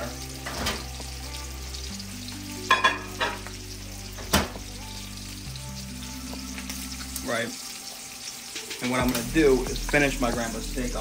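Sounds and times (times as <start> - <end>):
quiet background music: 0.0 - 11.0
steak sizzling in a frying pan: 0.0 - 11.0.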